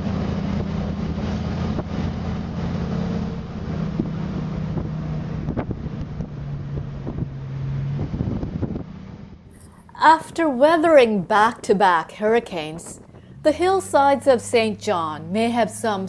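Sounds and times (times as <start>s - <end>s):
vehicle engine running: 0.0s - 16.0s
wind buffeting microphone: 0.0s - 16.0s.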